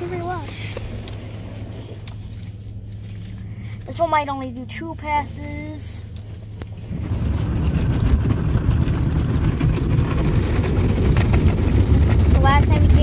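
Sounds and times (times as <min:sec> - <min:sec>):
car wash brushes churning: 0:00.0 - 0:13.0.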